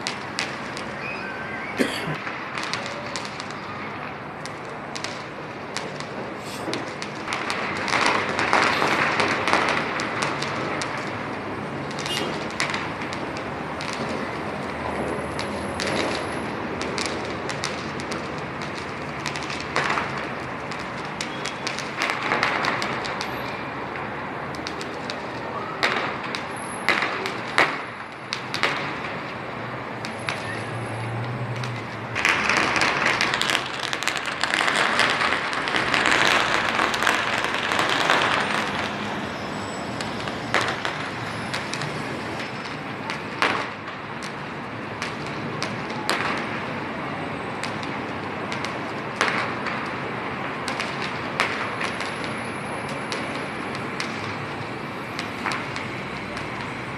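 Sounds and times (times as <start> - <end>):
fireworks banging and crackling: 0.0 - 56.9
steady background noise: 0.0 - 56.9.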